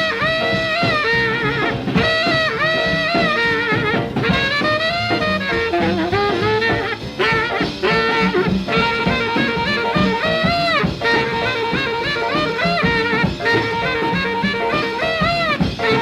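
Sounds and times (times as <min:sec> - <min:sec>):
alto saxophone lead: 0:00.0 - 0:16.0
swing jazz band: 0:00.0 - 0:16.0.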